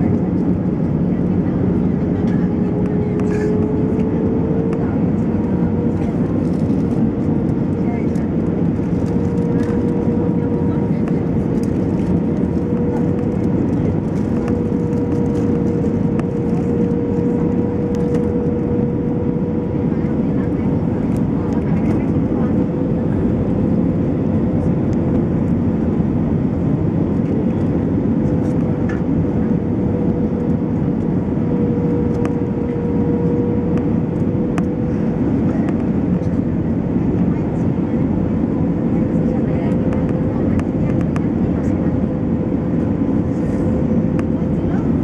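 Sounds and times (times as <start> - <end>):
steady droning tone: 0.0 - 24.8, 27.5 - 45.0
jet engine cabin roar: 0.0 - 45.0.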